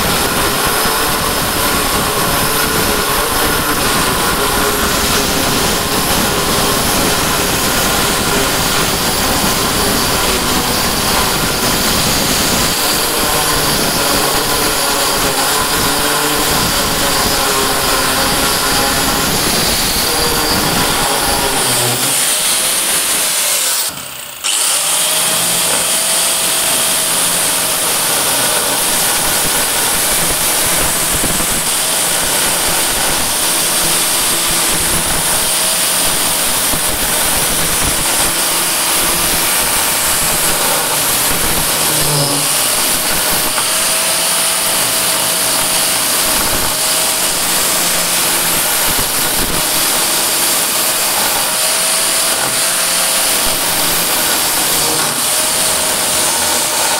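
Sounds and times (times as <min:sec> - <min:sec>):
angle grinder boring into stone: 0:00.0 - 0:56.9.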